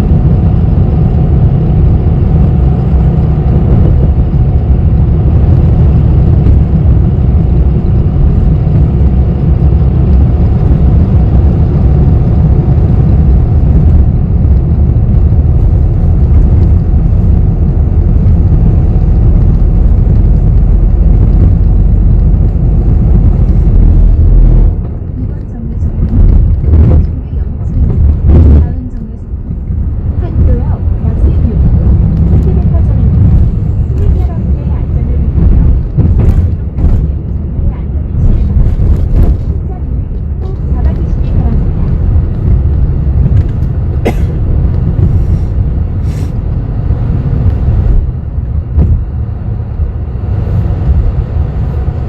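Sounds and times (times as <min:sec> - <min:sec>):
bus engine rumbling: 0:00.0 - 0:52.0
road noise: 0:00.0 - 0:52.0.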